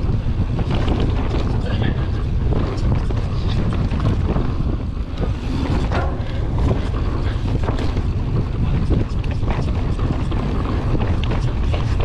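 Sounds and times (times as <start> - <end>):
bike knocks and rattles: 0.0 - 12.0
tyres rumbling on dirt: 0.0 - 12.0
wind buffeting microphone: 0.0 - 12.0.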